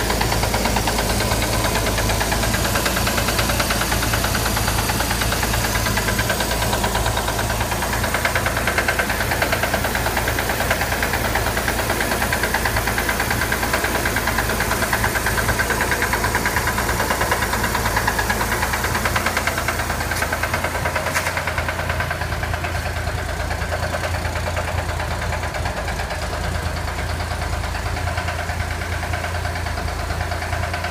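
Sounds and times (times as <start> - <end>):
engine running with rhythmic knock: 0.0 - 30.9.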